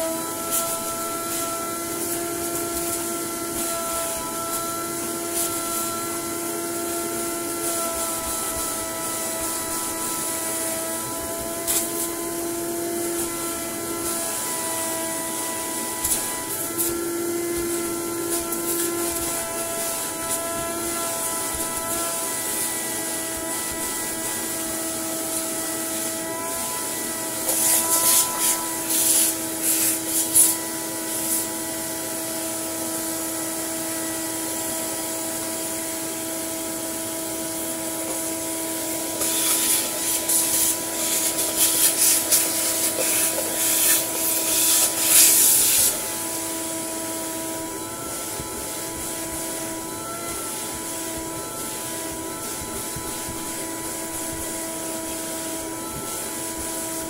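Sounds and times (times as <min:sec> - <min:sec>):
vacuum cleaner motor whine: 0:00.0 - 0:57.0
vacuum nozzle rasping hiss: 0:00.0 - 0:57.0.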